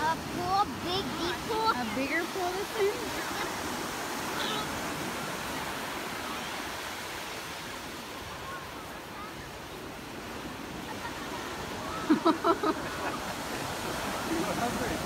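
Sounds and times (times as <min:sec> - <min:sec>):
ocean surf washing on beach: 0:00.0 - 0:15.0.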